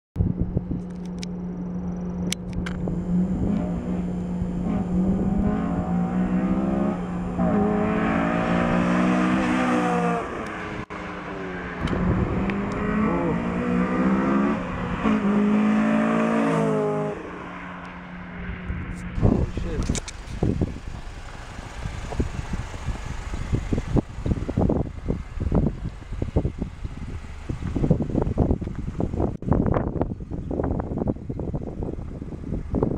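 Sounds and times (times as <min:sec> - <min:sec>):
car engine revving: 0:01.0 - 0:29.8.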